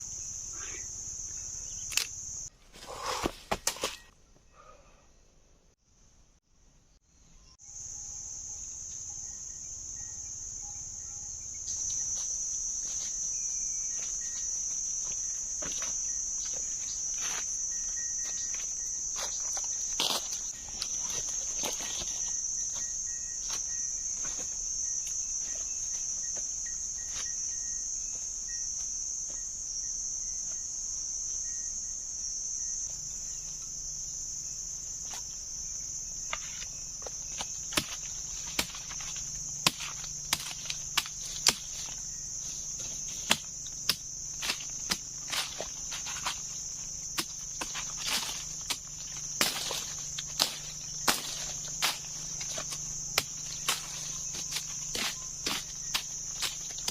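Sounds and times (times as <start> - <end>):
insects chorus: 0.0 - 5.0, 7.0 - 56.9.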